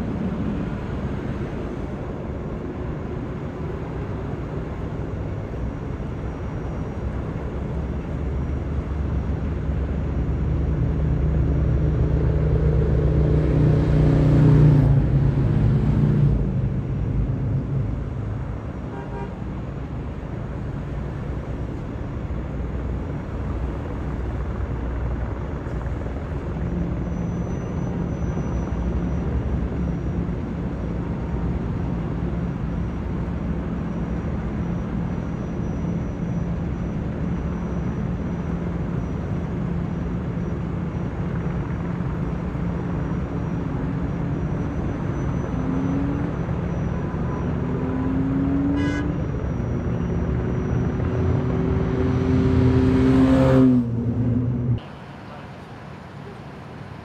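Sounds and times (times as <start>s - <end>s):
freeway traffic rumble: 0.0s - 57.0s.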